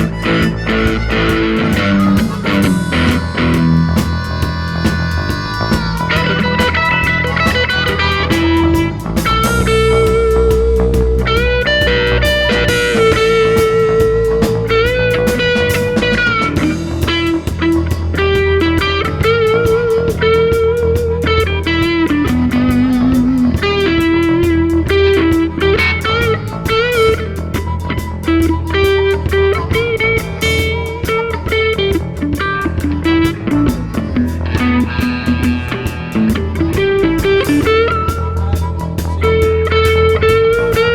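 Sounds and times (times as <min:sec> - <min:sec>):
bass guitar: 0:00.0 - 0:40.9
electric guitar lead melody: 0:00.0 - 0:40.9
steady drum beat: 0:00.0 - 0:40.9.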